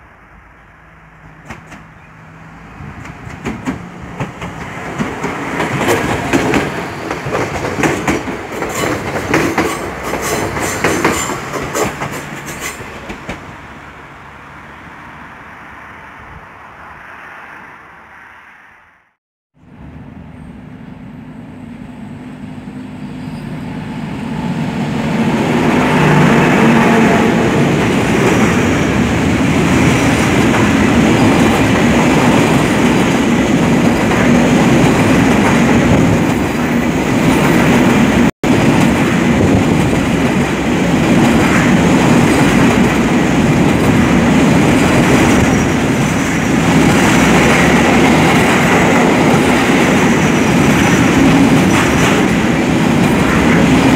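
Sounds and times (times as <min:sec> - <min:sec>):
freight train rumbling past: 0:00.0 - 0:19.0, 0:19.6 - 0:53.9.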